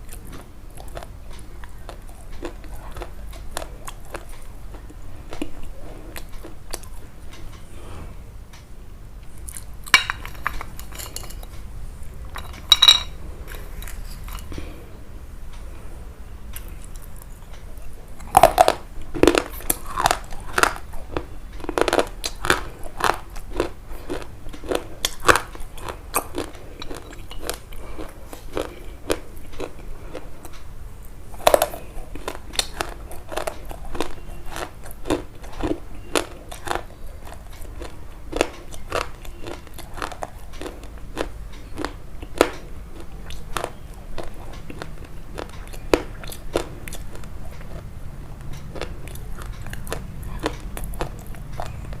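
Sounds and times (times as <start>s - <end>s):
crunchy biting and chewing: 0.0s - 7.9s, 16.6s - 30.7s, 31.3s - 52.0s.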